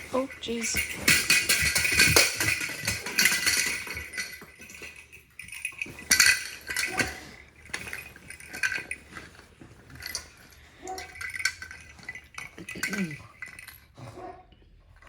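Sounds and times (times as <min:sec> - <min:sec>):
bell toy jingling: 0:00.0 - 0:09.0, 0:10.0 - 0:13.9.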